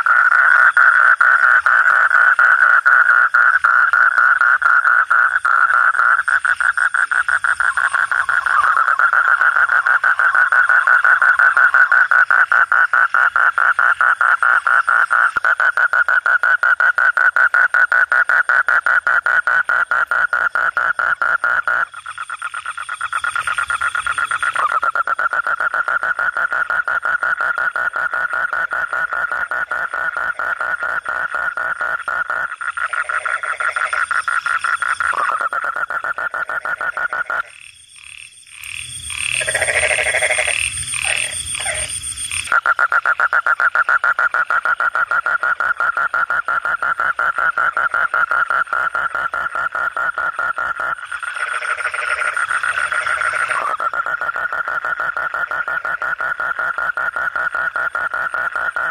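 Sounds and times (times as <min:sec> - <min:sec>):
toad trilling: 0:00.0 - 0:58.9.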